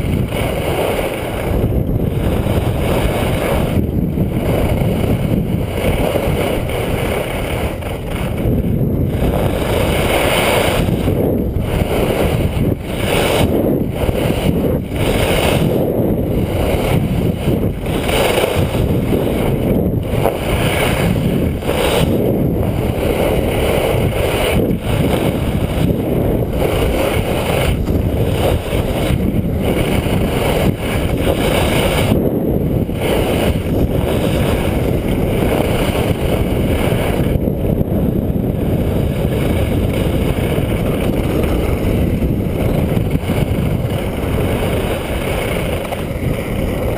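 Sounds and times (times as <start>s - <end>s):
skis sliding on snow: 0.0s - 46.9s
wind rushing over microphone: 0.0s - 46.9s.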